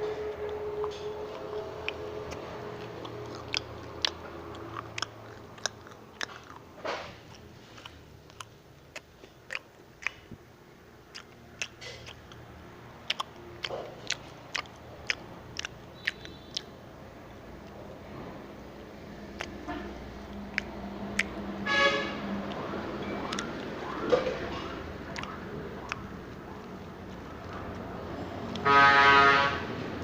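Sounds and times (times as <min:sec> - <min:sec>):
crispy food crunching: 0:00.2 - 0:10.4, 0:11.0 - 0:21.5, 0:22.2 - 0:28.7.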